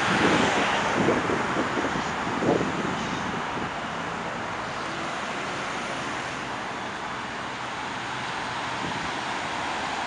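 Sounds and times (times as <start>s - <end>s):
tyre hiss of passing cars: 0.0s - 10.0s.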